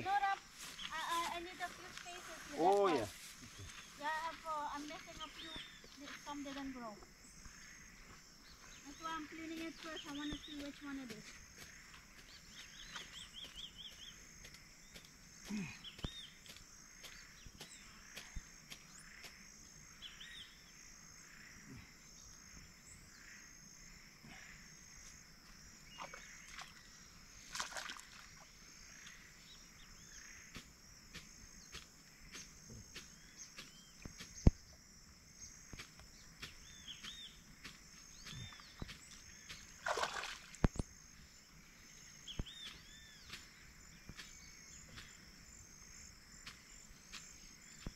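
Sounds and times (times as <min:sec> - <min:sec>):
bird calls: 0:00.0 - 0:47.9
insects droning and chirping: 0:00.0 - 0:47.9.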